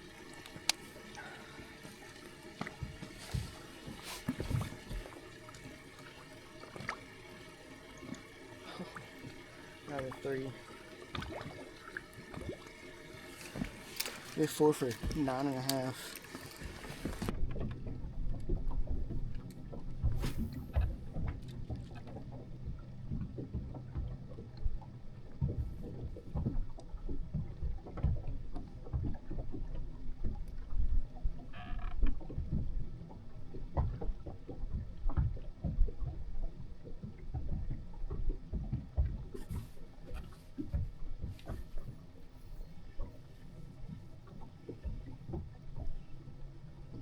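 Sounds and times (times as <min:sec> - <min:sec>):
water slapping hull: 0:00.0 - 0:47.0.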